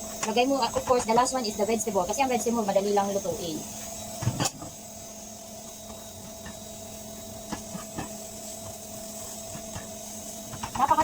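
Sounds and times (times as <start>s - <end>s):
faint hiss of frying: 0.0s - 11.0s
kitchen hum: 0.0s - 11.0s.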